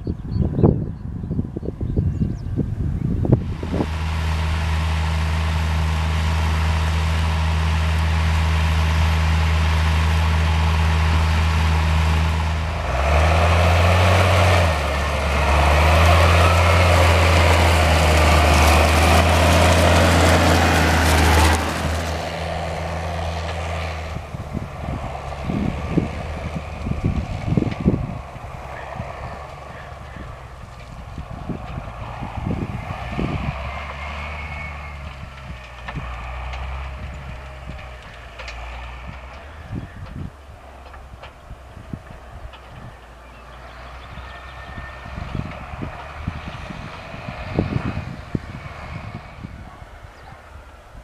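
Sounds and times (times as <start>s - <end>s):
tractor diesel engine under load: 0.0s - 51.0s
wind buffeting microphone: 0.0s - 51.0s.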